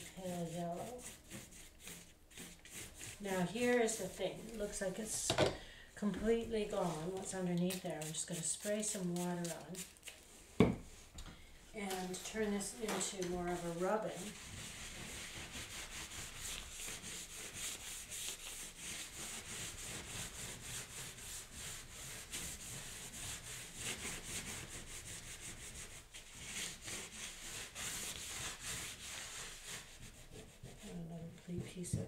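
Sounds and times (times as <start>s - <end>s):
paper towel scrubbing wet paper: 0.0s - 5.1s, 6.5s - 10.2s, 11.8s - 32.0s.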